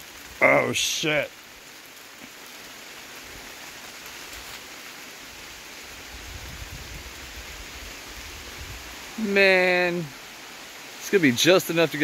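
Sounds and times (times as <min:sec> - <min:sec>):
rain pattering on leaves and water: 0:00.0 - 0:12.0.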